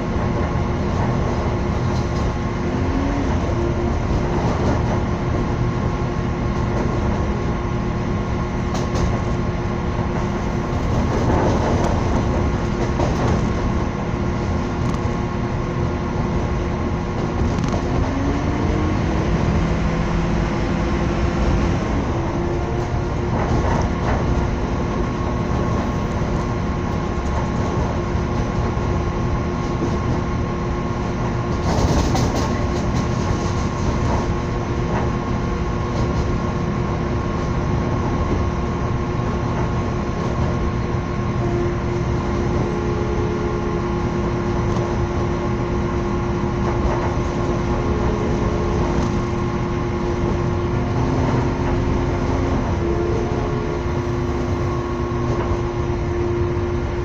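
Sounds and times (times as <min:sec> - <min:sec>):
constant drone: 0:00.0 - 0:57.0
train wheels rumbling on track: 0:00.0 - 0:57.0.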